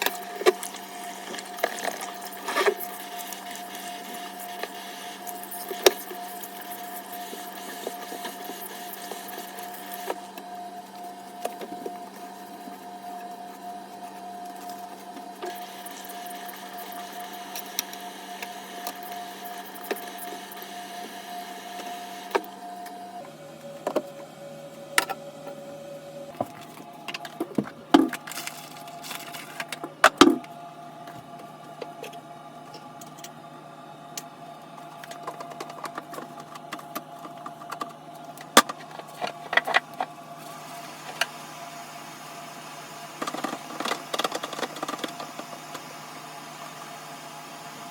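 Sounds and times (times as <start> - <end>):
steady background hum: 0.0 - 47.9.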